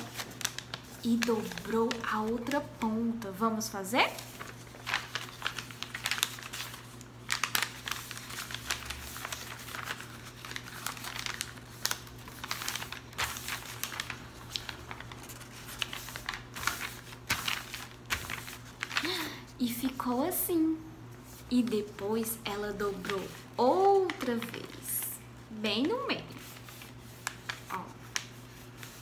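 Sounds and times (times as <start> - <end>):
paper rustling and crinkling: 0.0 - 19.9, 21.2 - 29.0.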